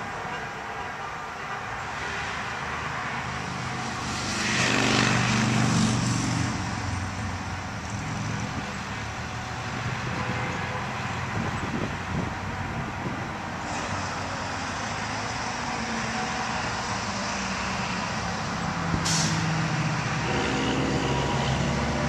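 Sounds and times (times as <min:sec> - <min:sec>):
street traffic noise: 0:00.0 - 0:22.0
vehicle passing close: 0:02.2 - 0:12.3, 0:13.6 - 0:22.0.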